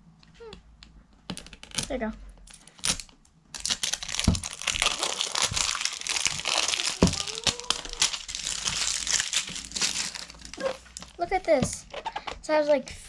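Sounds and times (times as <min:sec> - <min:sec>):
plastic wrapper tearing and crinkling: 0:01.3 - 0:12.2.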